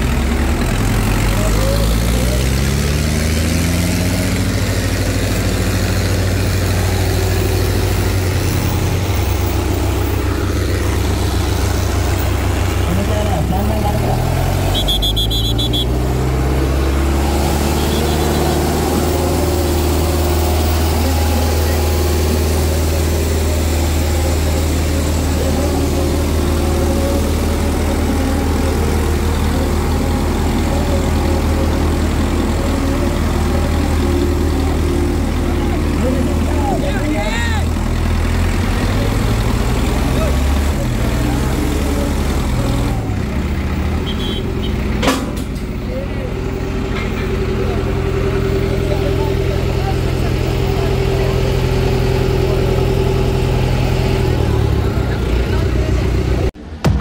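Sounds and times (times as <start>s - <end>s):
people talking: 0.0s - 57.0s
tractor diesel engine running: 0.0s - 57.0s.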